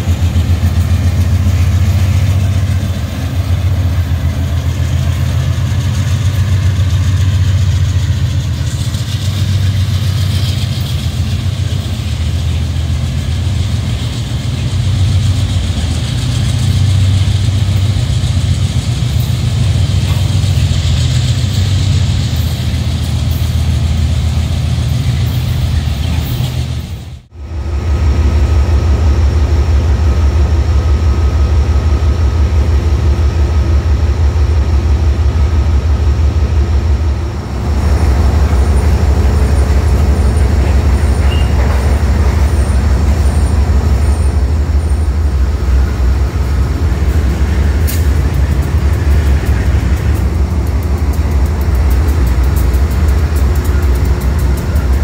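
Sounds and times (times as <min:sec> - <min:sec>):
diesel locomotive rumbling: 0:00.0 - 0:55.0.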